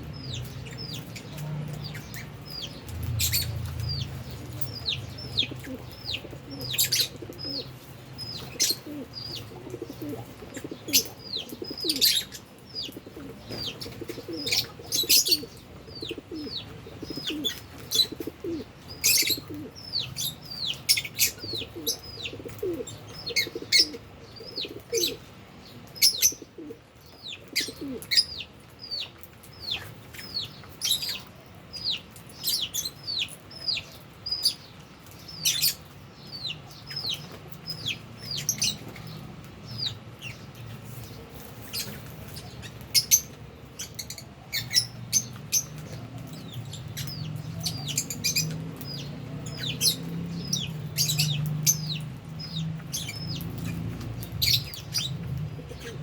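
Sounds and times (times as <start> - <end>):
lovebirds chirping: 0.0 - 56.0
lower falling bird calls: 0.0 - 56.0.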